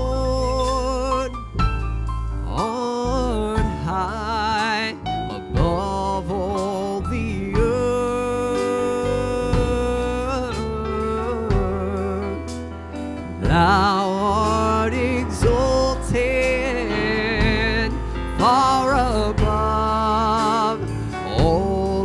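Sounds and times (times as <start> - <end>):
bass: 0.0 - 22.0
keyboard: 0.0 - 22.0.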